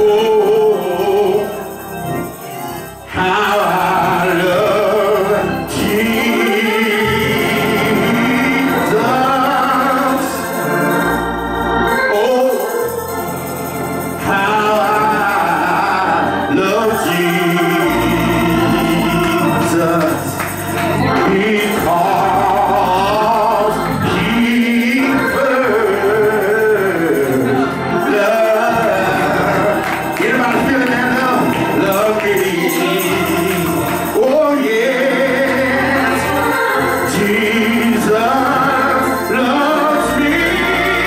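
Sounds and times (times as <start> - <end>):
man singing gospel: 0.0 - 41.0
organ chords: 0.0 - 41.0.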